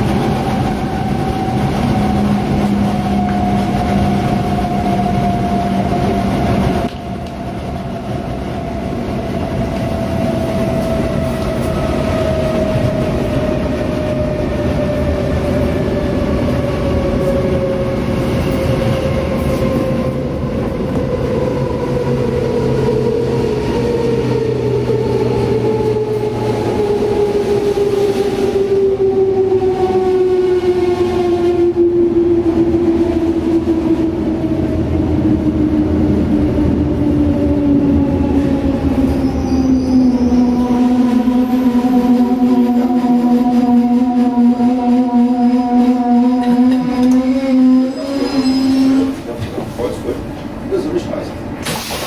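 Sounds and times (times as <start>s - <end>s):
train wheels rumbling: 0.0s - 52.0s.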